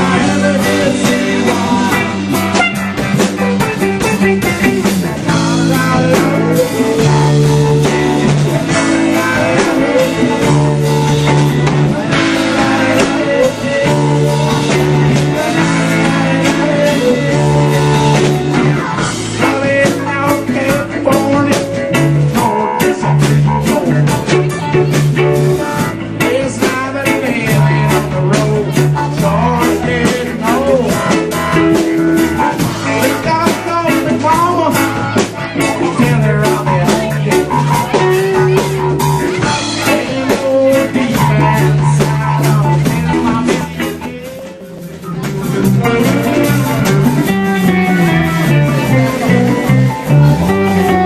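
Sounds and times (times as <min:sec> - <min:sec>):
drum kit: 0:00.0 - 0:51.0
electric guitar: 0:00.0 - 0:51.0
live blues-rock band: 0:00.0 - 0:51.0
person singing: 0:00.0 - 0:51.0.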